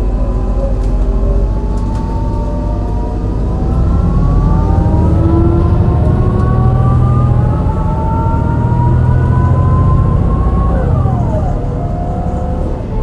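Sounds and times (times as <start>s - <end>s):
bus engine rough rumble: 0.0s - 13.0s
gearbox whine: 0.0s - 13.0s.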